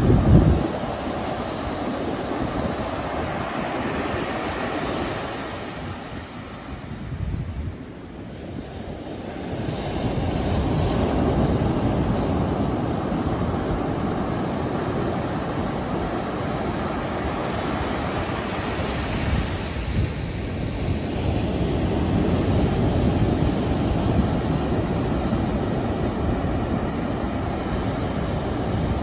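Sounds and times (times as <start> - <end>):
waves breaking on beach: 0.0 - 29.0.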